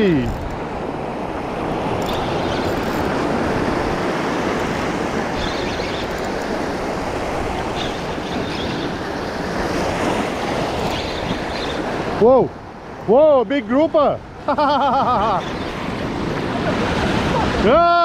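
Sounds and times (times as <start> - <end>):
sea surf breaking: 0.0 - 18.0.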